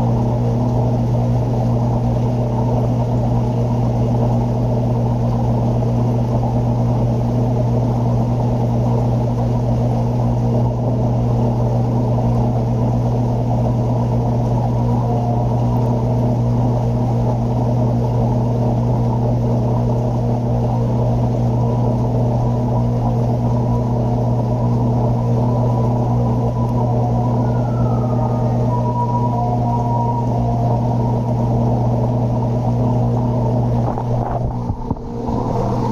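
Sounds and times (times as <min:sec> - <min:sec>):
aquarium equipment hum: 0:00.0 - 0:35.9.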